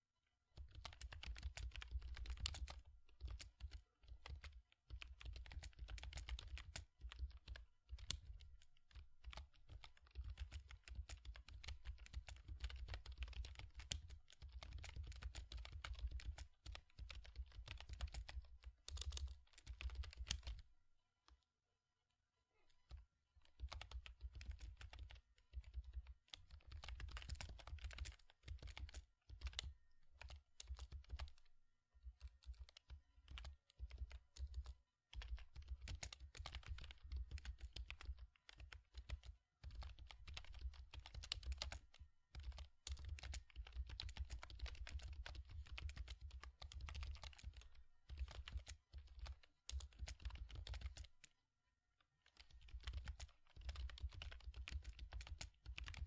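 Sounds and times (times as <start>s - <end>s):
fast typing on keyboard: 0.6s - 20.7s, 22.8s - 51.3s, 52.2s - 56.0s.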